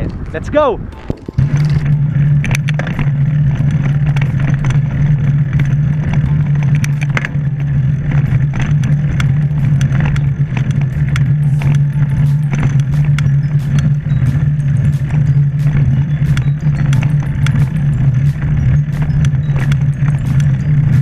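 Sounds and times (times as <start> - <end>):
ride hum and road noise: 0.0 - 21.0
sharp clicks and rattles: 0.0 - 21.0.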